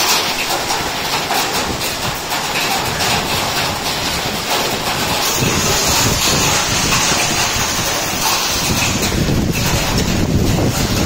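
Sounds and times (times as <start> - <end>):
hail and rain on pavement: 0.0 - 11.0.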